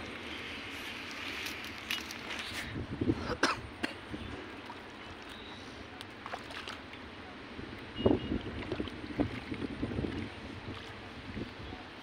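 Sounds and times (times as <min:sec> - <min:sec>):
water splashes: 0:00.0 - 0:02.7, 0:04.0 - 0:12.0
wind: 0:00.0 - 0:12.0.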